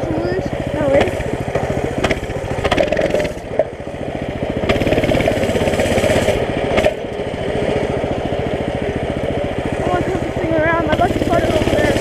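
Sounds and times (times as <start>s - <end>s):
mini bike engine running: 0.0s - 12.0s.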